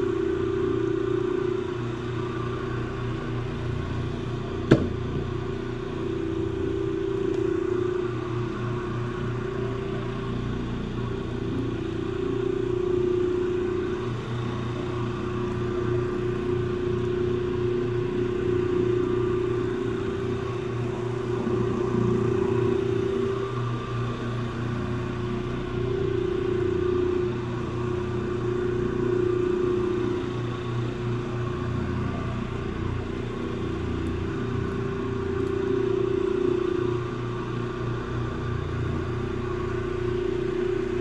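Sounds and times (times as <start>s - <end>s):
floor machine motor hum: 0.0s - 41.0s.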